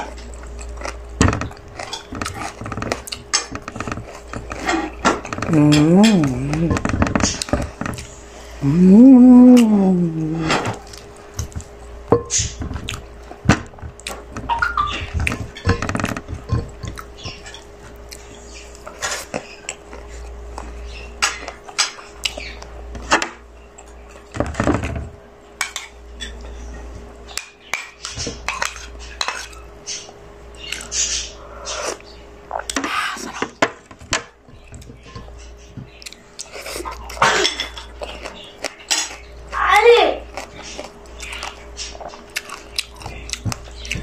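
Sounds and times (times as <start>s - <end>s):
chewing food: 0.0s - 22.9s, 27.3s - 33.4s, 34.5s - 44.0s
faint steady hum: 0.0s - 44.0s.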